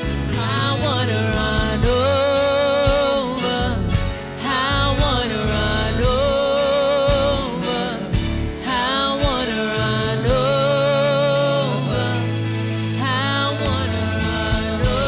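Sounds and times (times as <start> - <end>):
gospel worship song with band: 0.0 - 15.0.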